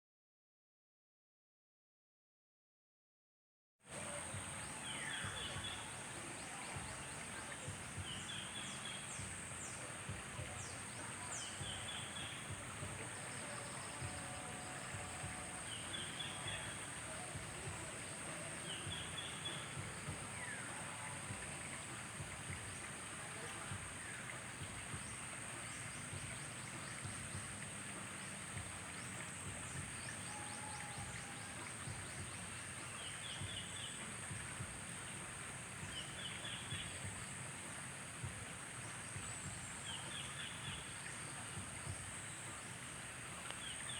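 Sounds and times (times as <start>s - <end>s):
soft hiss: 3.9s - 43.9s
birds chirping: 4.0s - 43.9s.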